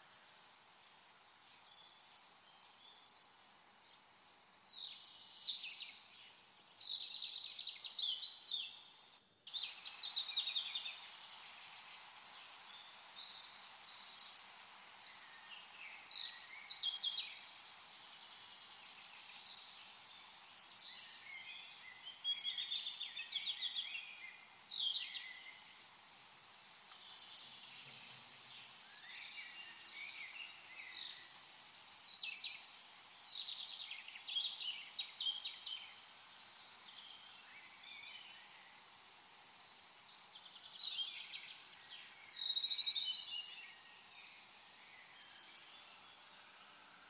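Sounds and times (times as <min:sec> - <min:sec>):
songbirds singing: 0:00.0 - 0:47.0
steady hiss: 0:00.0 - 0:47.0.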